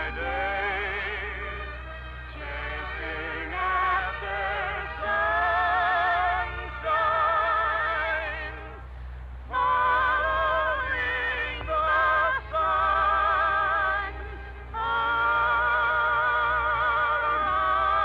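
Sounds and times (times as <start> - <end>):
low hum: 0.0 - 18.0
operetta singing with orchestra: 0.0 - 18.0.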